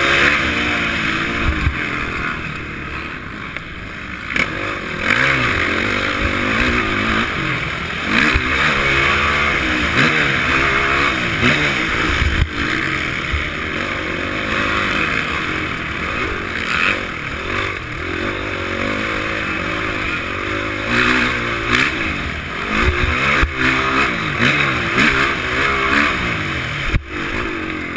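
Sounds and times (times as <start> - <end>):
motocross bike engine revving: 0.0 - 27.9
steady rushing noise: 0.0 - 27.9.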